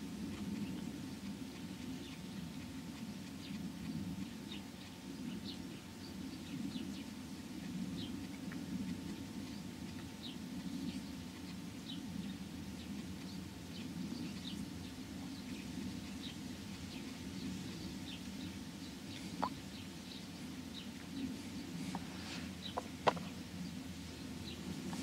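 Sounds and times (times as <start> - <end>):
steady low rumble: 0.0 - 25.0
small birds chirping: 0.3 - 25.0.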